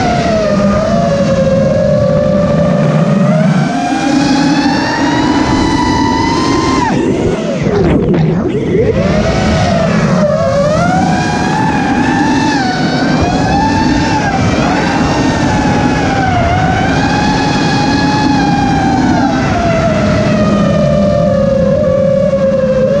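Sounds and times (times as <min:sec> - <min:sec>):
rushing air noise: 0:00.0 - 0:19.0
drone motors whining: 0:00.0 - 0:23.0.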